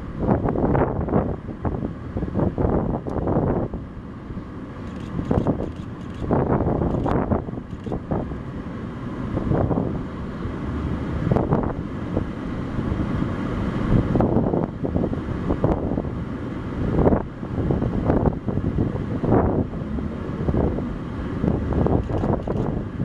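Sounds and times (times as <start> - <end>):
wind buffeting microphone: 0.0 - 3.9, 4.9 - 23.0.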